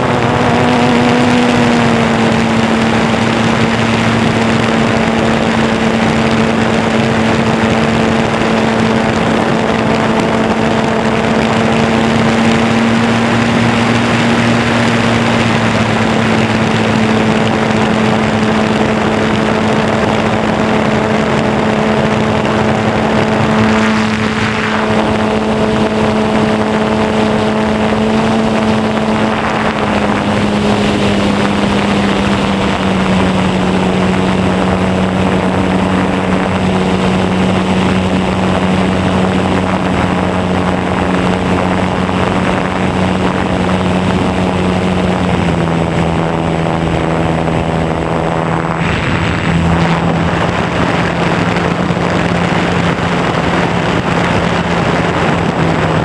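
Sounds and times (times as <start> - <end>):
model airplane motor droning: 0.0 - 56.0
wind rushing past: 0.0 - 56.0.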